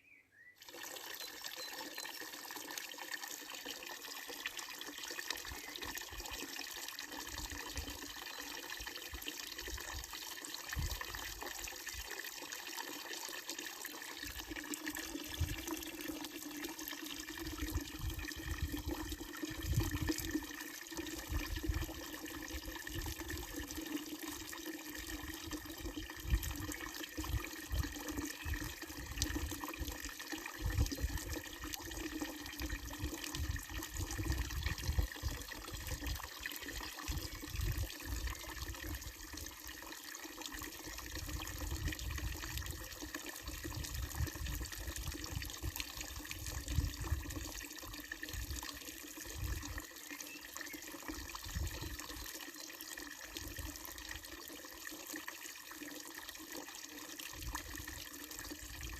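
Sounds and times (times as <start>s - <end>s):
water pouring into fountain basin: 0.6s - 58.9s.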